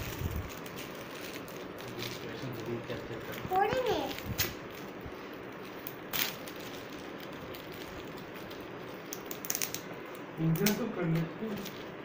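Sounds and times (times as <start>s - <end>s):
foil gift wrap crinkling: 0.0s - 12.0s.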